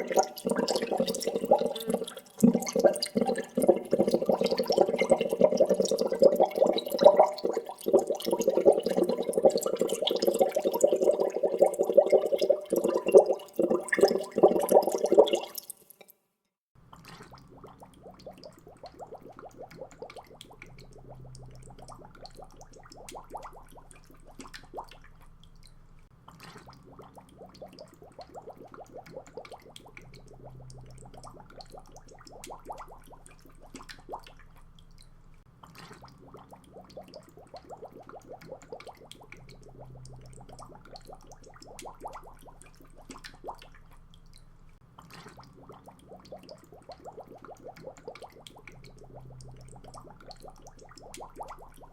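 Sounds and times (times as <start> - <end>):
water bubbling and gurgling: 0.0 - 15.7, 16.9 - 51.9
water drips and plops: 0.0 - 16.2, 16.8 - 51.9.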